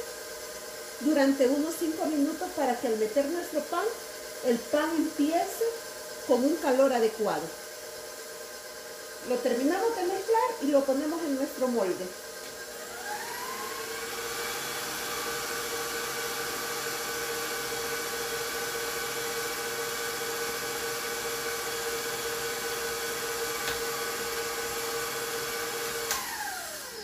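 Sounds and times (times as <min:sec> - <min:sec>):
stand mixer motor whine: 0:00.0 - 0:27.0.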